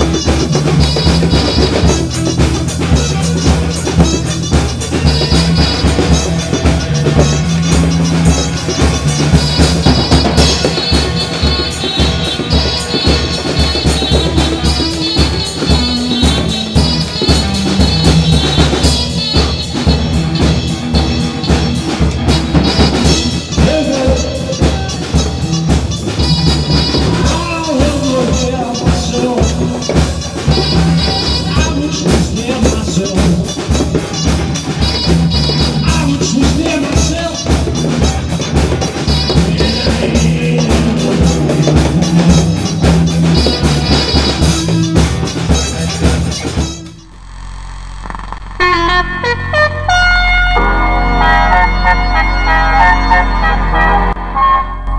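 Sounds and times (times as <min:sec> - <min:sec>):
drum kit beat: 0:00.0 - 0:47.3
electric guitar: 0:00.0 - 0:47.3.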